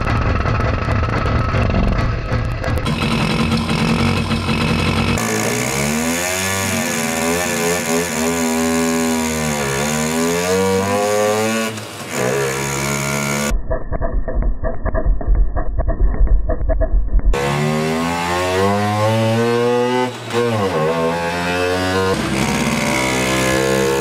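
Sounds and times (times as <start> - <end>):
moped engine revving: 0.0 - 13.5, 17.3 - 24.0.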